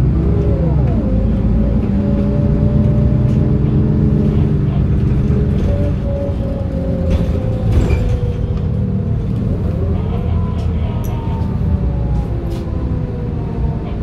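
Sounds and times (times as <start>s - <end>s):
bus engine whining: 0.0s - 14.0s.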